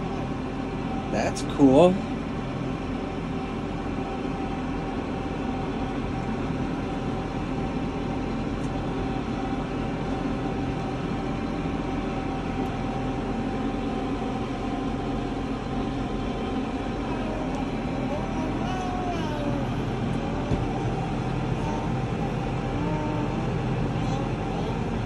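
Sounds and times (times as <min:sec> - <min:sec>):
steady whine: 0:00.0 - 0:25.0
tractor diesel engine running: 0:00.0 - 0:25.0.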